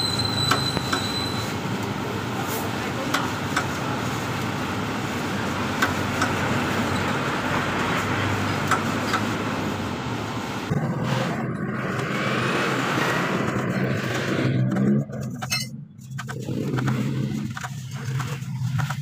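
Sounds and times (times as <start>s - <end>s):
traffic background noise: 0.0s - 19.0s.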